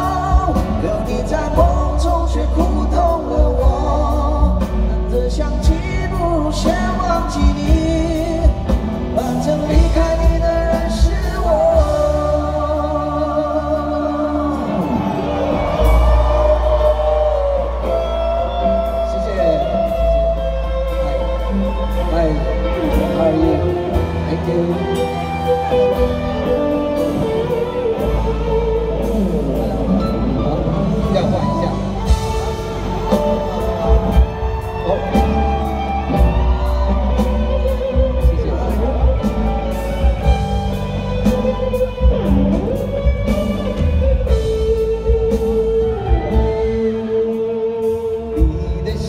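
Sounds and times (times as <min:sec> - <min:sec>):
bass and drums: 0:00.0 - 0:49.0
electric guitar melody: 0:00.0 - 0:49.0.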